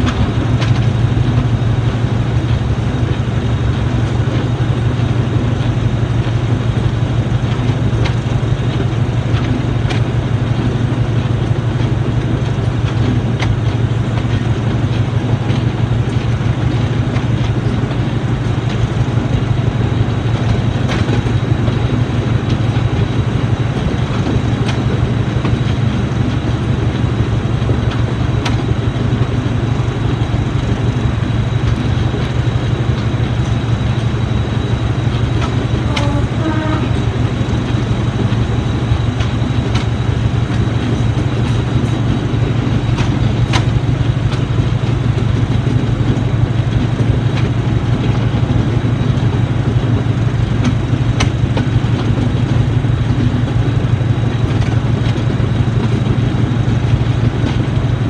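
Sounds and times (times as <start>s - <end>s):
diesel engine running: 0.0s - 58.0s
moving train rush: 0.0s - 58.0s
wheels clicking on track: 0.0s - 58.0s.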